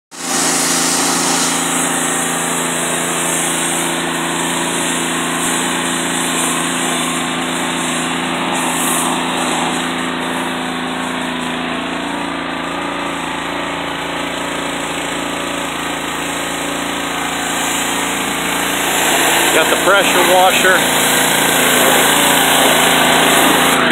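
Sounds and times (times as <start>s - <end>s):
high-pressure spray hissing: 0.1s - 23.9s
pressure washer motor hum: 0.1s - 23.9s.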